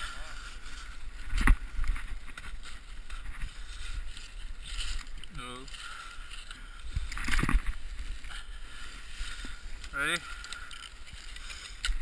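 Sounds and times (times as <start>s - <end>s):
clothing and gear rustling: 0.0s - 12.0s.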